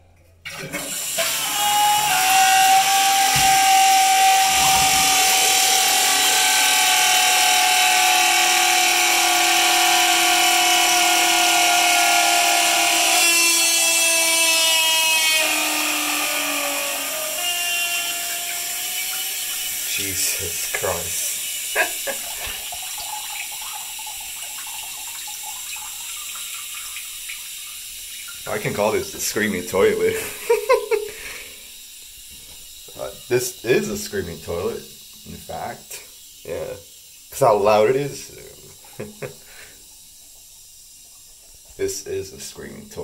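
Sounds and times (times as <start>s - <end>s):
toilet flushing and refilling: 0.4s - 14.4s, 15.4s - 43.0s.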